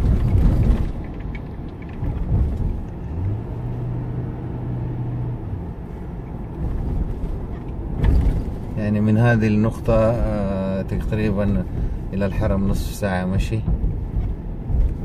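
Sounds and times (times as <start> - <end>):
engine and road noise: 0.0 - 15.0
low engine hum: 0.0 - 15.0.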